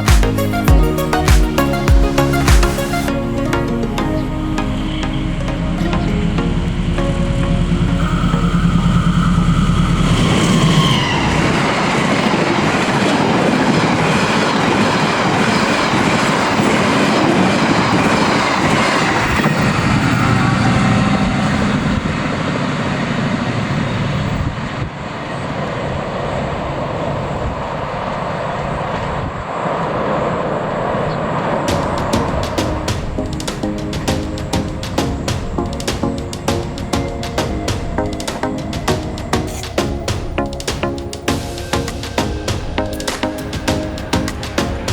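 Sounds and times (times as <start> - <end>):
passenger train passing: 5.1 - 44.9.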